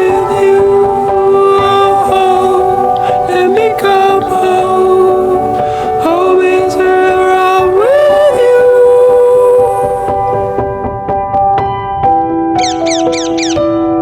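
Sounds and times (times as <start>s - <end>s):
pop song with singing: 0.0s - 11.4s.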